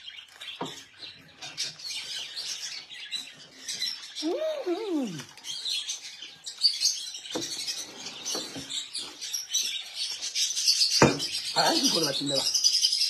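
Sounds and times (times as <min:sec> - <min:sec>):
birds chirping and twittering: 0:00.0 - 0:13.0.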